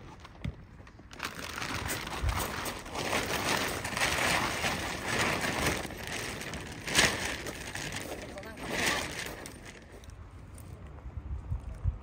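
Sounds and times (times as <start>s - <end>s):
plastic groundsheet crinkling: 0.0s - 10.8s.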